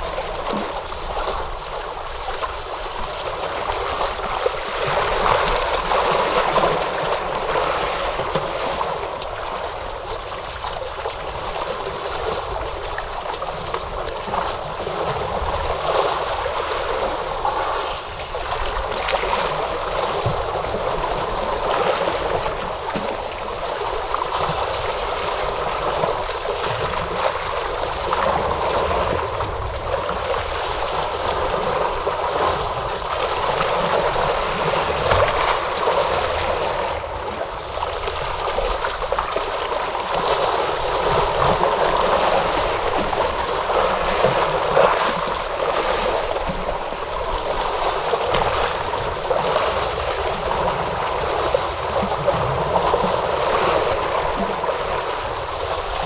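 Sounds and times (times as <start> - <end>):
ocean surf churning: 0.0 - 56.0.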